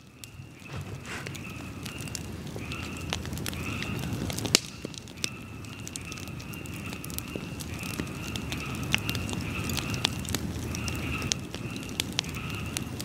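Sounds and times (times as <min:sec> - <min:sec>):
bonfire crackling and popping: 0:00.0 - 0:13.0
frogs calling: 0:00.0 - 0:13.0
low rumble of flames: 0:00.0 - 0:13.0.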